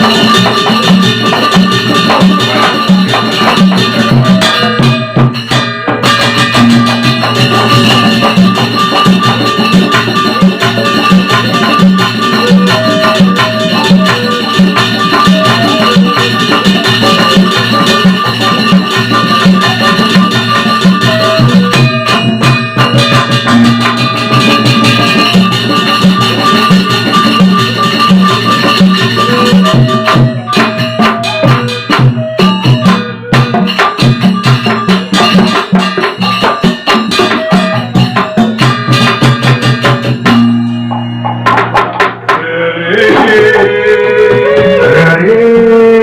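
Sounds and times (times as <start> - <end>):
low ringing tone: 0.0 - 42.1
gamelan ensemble playing: 0.0 - 45.2
drums: 0.0 - 46.0.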